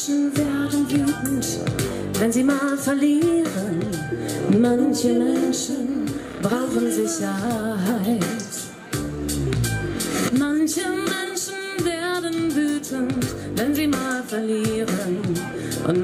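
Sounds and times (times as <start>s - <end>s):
two women singing into microphones: 0.0s - 8.8s, 10.3s - 16.0s.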